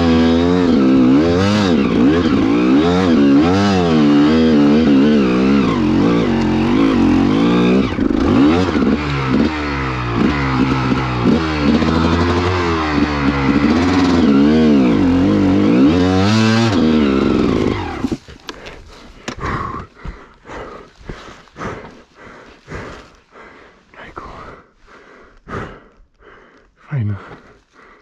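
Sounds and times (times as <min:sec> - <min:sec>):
dirt bike engine revving: 0:00.0 - 0:23.3.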